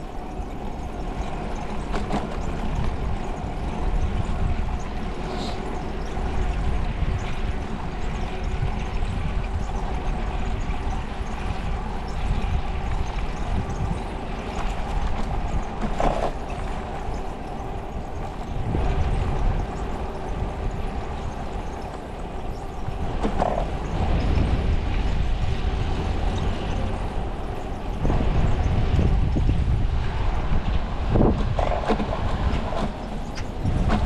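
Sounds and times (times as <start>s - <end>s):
road and traffic noise: 0.0s - 34.0s
wind buffeting microphone: 0.0s - 34.0s.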